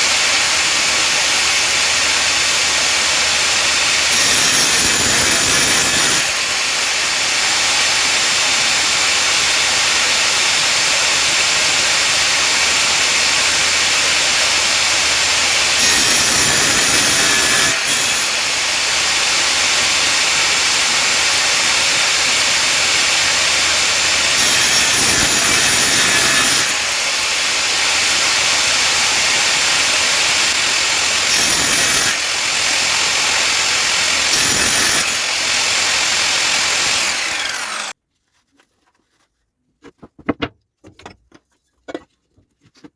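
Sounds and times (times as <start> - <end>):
power saw cutting wood: 0.0 - 38.0.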